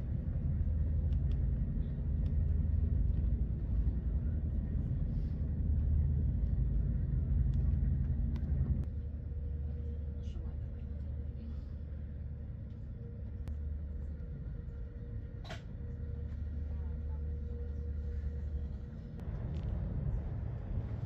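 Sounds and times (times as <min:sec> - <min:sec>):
train rumbling from inside carriage: 0:00.0 - 0:21.0.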